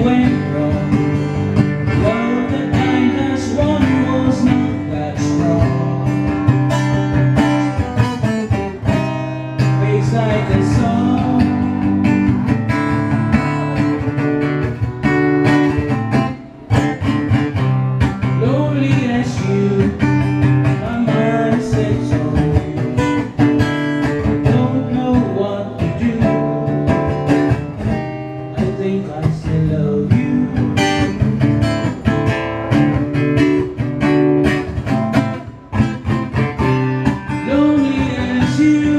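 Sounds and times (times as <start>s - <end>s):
acoustic guitar strummed and picked: 0.0s - 38.9s.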